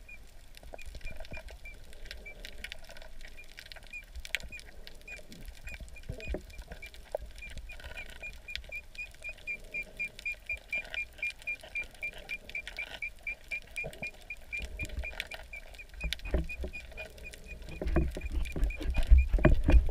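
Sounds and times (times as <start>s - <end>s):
muffled water movement: 0.0s - 19.9s.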